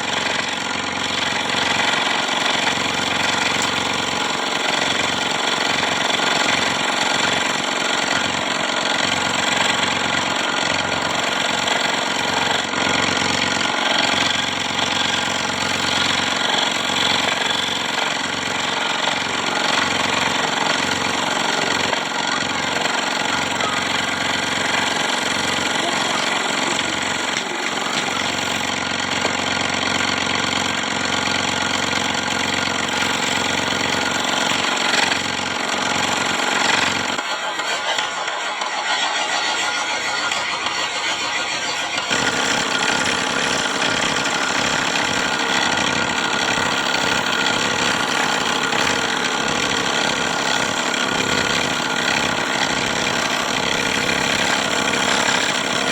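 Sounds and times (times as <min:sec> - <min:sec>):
scroll saw cutting wood: 0:00.0 - 0:55.9.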